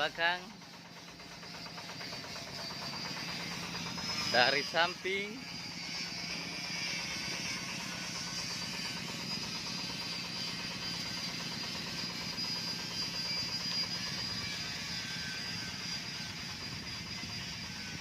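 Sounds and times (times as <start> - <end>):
machinery low hum: 0.0 - 18.0
high whine: 1.2 - 18.0.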